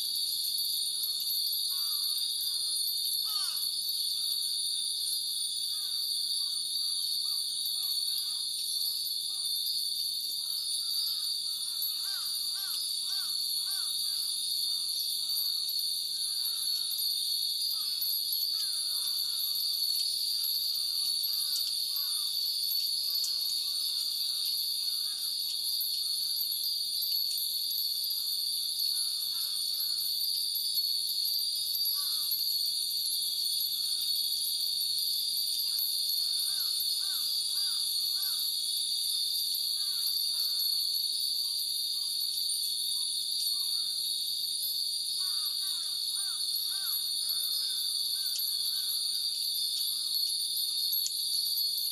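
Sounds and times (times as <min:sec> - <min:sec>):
insects droning: 0:00.0 - 0:51.9
metal wind chimes tinkling: 0:00.0 - 0:51.9.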